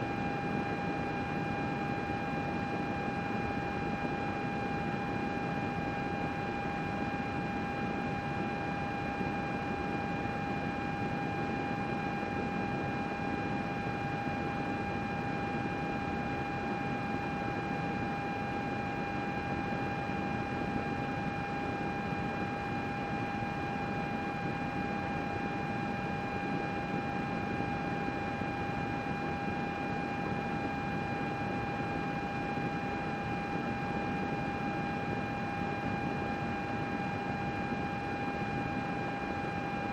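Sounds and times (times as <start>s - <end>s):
constant high whine: 0.0s - 39.9s.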